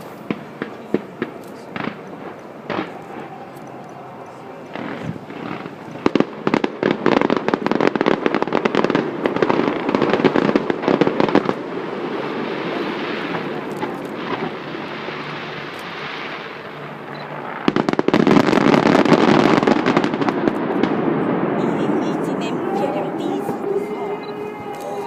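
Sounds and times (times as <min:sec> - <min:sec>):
fireworks rushing hiss: 0:00.0 - 0:23.8
fireworks crackling bursts: 0:00.0 - 0:25.0.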